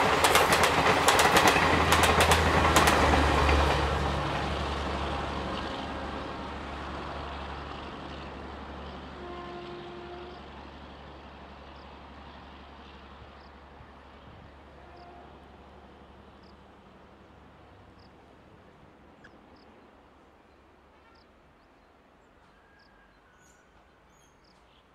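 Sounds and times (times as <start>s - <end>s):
train coaches rumbling on rails: 0.0s - 20.3s.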